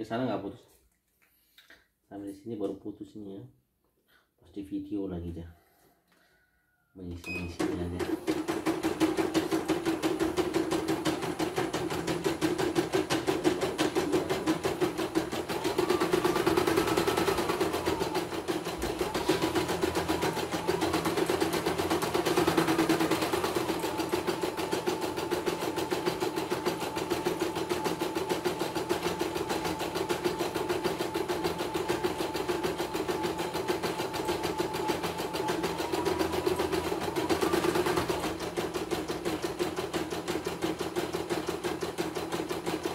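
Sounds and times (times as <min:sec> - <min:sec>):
embroidery machine stitching: 0:07.4 - 0:42.9.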